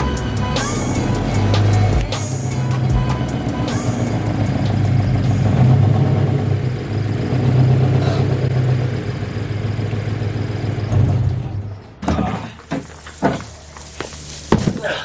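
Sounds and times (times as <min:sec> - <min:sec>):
car engine and exhaust droning: 0:00.0 - 0:15.0.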